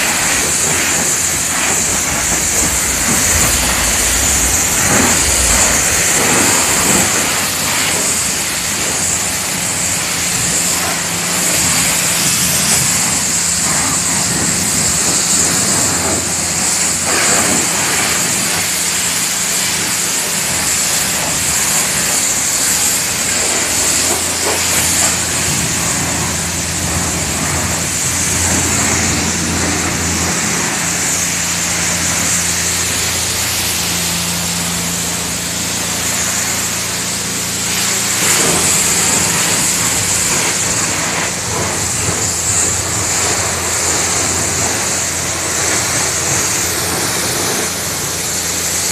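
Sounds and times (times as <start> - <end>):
pressure washer water jet hissing: 0.0 - 48.9
pump motor humming: 0.0 - 48.9.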